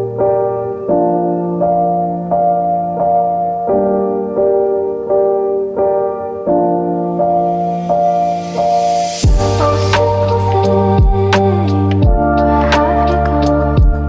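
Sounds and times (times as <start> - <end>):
gentle piano notes: 0.0 - 14.0.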